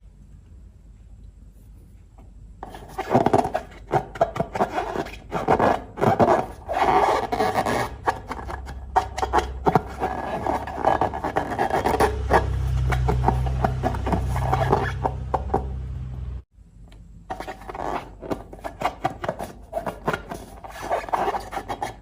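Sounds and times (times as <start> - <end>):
scraping in a container: 2.6 - 15.7, 17.3 - 22.0.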